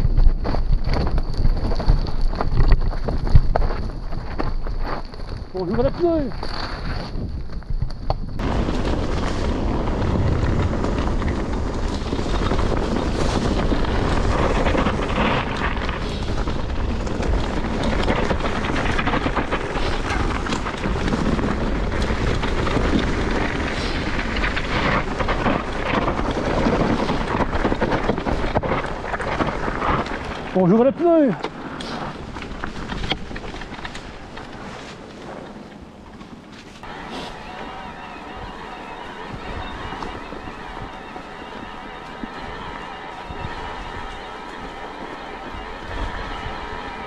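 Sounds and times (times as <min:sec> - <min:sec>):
bike shaking over bumps: 0:00.0 - 0:47.0
wind buffeting microphone: 0:00.0 - 0:47.0.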